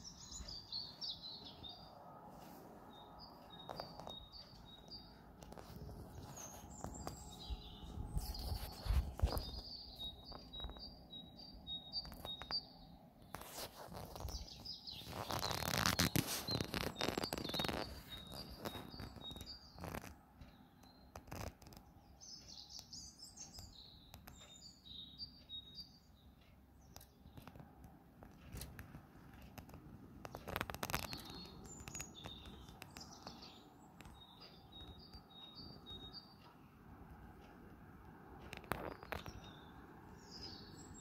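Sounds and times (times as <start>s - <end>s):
songbird singing trills: 0.0s - 2.1s, 2.8s - 27.8s, 30.3s - 36.6s, 38.4s - 41.0s.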